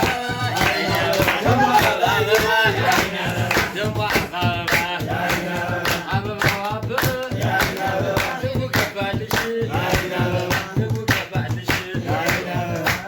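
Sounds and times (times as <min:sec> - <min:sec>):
hand-clapped beat: 0:00.0 - 0:13.0
voices singing together: 0:00.0 - 0:13.0.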